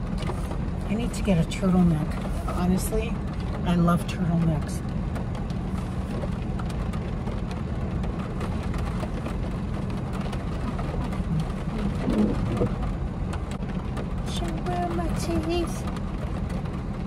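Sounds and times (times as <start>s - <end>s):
car engine low rumble: 0.0s - 17.0s
rain on car roof: 0.0s - 17.0s.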